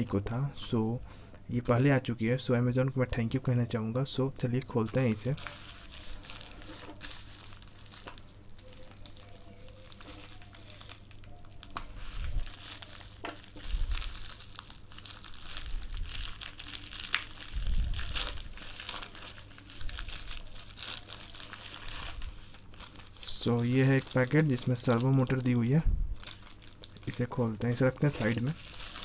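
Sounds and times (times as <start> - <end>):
plastic bag crinkling and tearing: 4.2 - 29.0.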